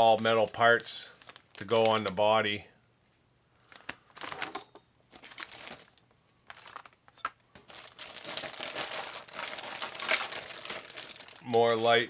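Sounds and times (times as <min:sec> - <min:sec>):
plastic bags crinkling: 0:00.0 - 0:02.4, 0:03.6 - 0:12.0.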